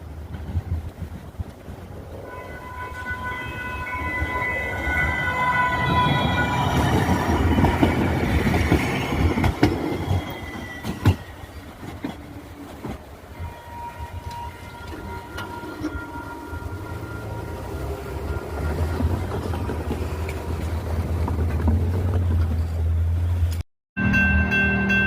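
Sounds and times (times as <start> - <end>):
light rail train passing: 0.0 - 25.0.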